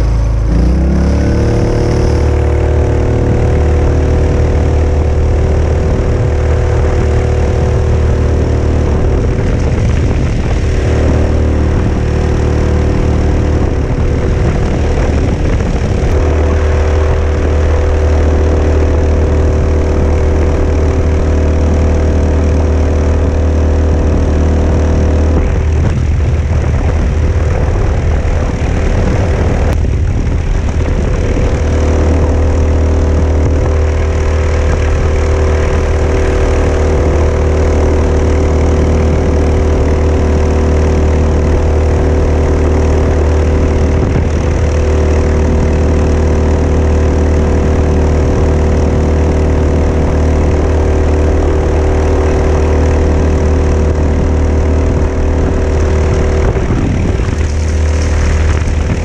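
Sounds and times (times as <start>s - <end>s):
small boat engine running steadily: 0.0s - 59.0s.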